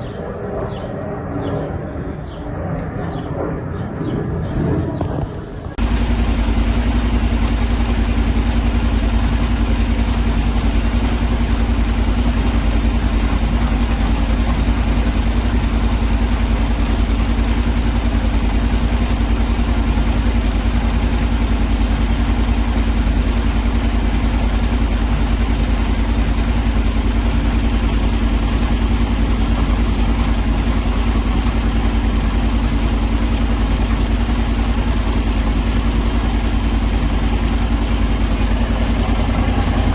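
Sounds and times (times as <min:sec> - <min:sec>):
motorcycle engine idling: 0:05.0 - 0:39.9.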